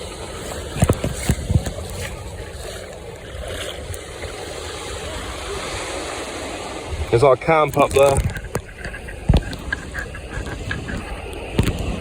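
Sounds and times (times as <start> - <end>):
muffled wind and sea rushing: 0.0 - 12.0.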